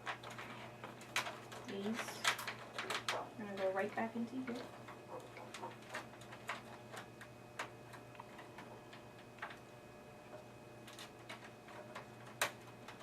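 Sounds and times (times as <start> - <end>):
computer parts clicking and tapping: 0.0 - 9.7, 10.3 - 13.0.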